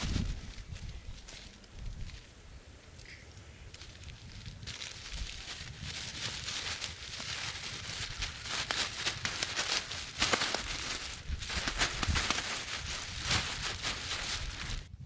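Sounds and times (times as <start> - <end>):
dry leaves and twigs crackling: 0.0 - 15.0
wind in forest: 0.0 - 15.0
wind rumble on microphone: 0.0 - 15.0.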